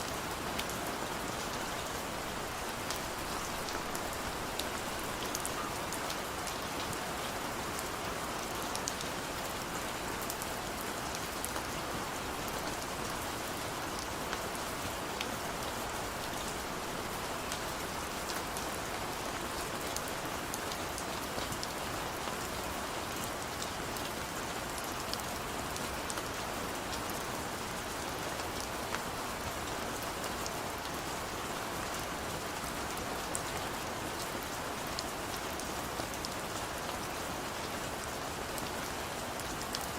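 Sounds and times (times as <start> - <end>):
heavy rain on a surface: 0.0 - 39.9.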